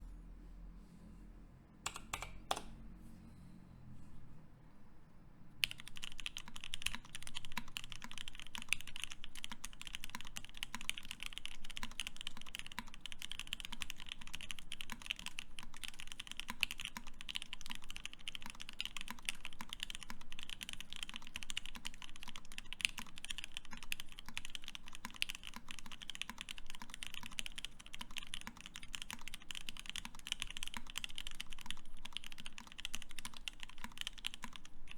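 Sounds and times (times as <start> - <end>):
mechanical keyboard typing: 1.8 - 2.8, 5.6 - 34.9.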